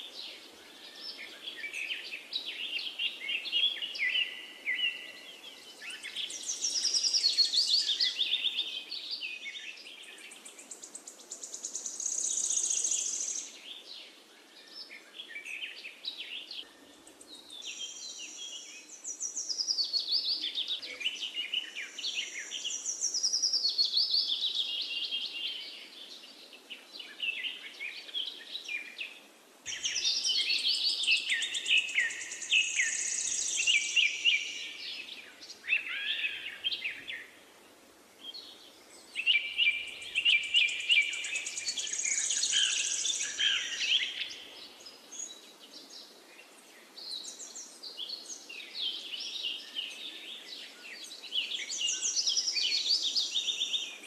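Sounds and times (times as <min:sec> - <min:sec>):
birds chirping and singing: 0:00.1 - 0:37.4, 0:38.2 - 0:54.0.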